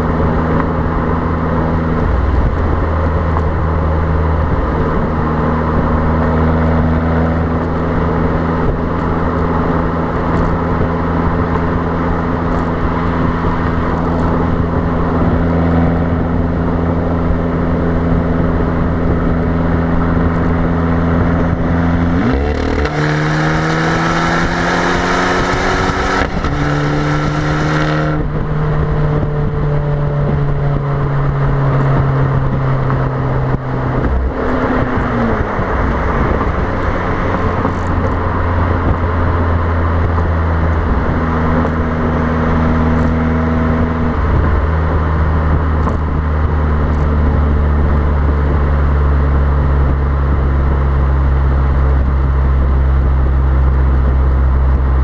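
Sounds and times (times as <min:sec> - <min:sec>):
car exhaust droning: 0:00.0 - 0:55.0
wind noise on microphone: 0:00.0 - 0:55.0.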